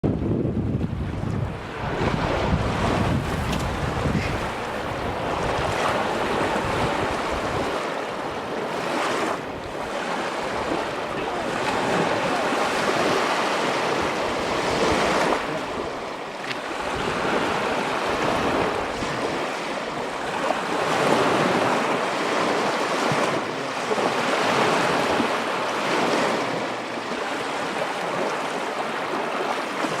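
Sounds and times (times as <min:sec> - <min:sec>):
wind rumbling on microphone: 0:00.0 - 0:30.0
waves breaking on sandy shore: 0:00.1 - 0:30.0.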